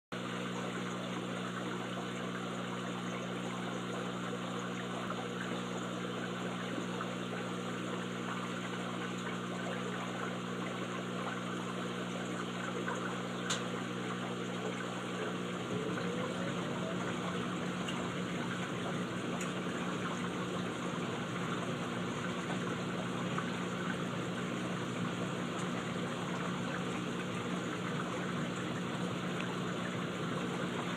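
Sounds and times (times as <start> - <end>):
aquarium pump humming: 0.2 - 30.9
moving water: 0.2 - 30.9.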